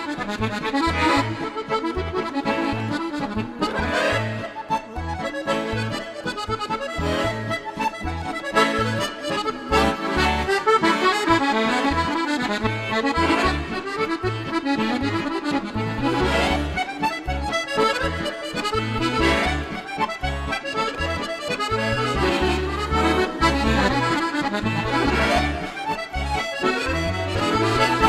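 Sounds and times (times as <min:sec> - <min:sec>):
button accordion folk dance tune: 0:00.0 - 0:28.0.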